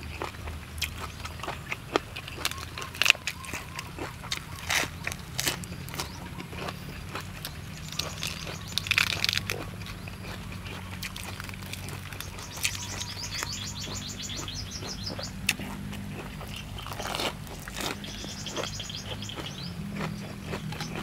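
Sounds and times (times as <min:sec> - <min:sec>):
crunching of chewing crisp food: 0:00.0 - 0:21.0
bird chirping rapidly: 0:01.1 - 0:21.0.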